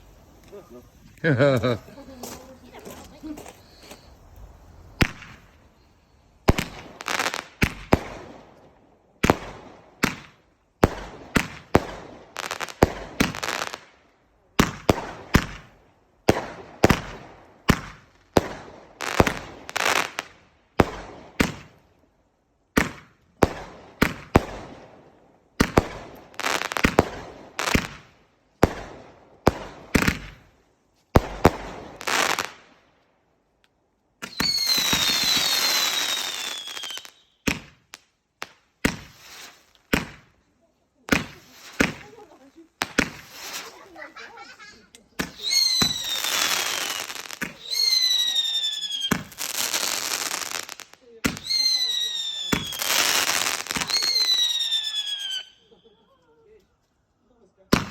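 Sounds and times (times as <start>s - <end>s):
fireworks exploding with crackle: 0.0s - 22.1s, 22.7s - 56.6s.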